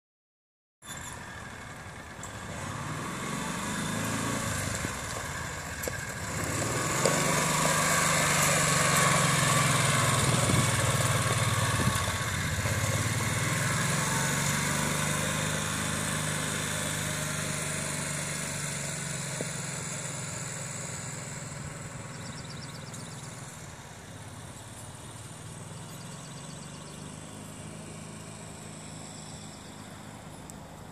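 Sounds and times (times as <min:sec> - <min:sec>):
utility vehicle engine passing: 0:01.0 - 0:30.9.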